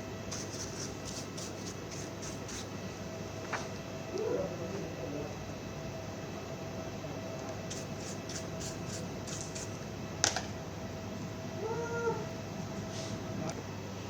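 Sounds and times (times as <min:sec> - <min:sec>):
steady fan-like hum: 0:00.0 - 0:14.0.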